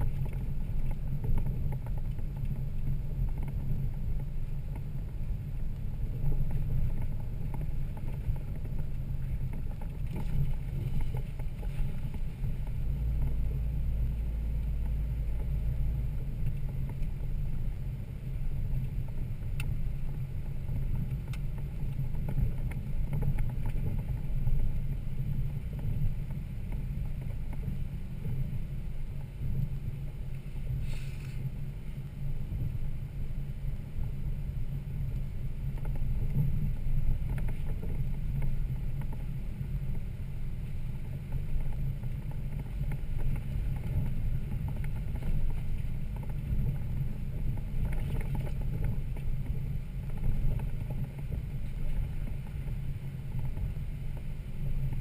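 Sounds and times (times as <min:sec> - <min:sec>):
deep low drone: 0:00.0 - 0:55.0
truck engine rumbling: 0:00.0 - 0:55.0.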